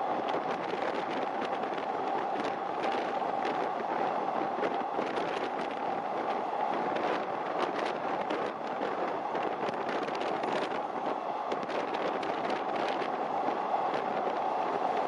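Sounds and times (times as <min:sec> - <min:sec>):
train rushing at speed: 0:00.0 - 0:15.0.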